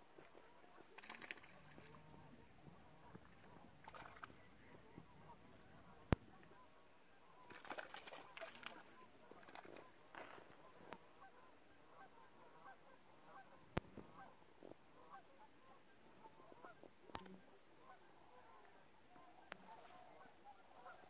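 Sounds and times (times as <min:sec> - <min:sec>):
distant cranes and ducks calling: 0:00.2 - 0:21.0.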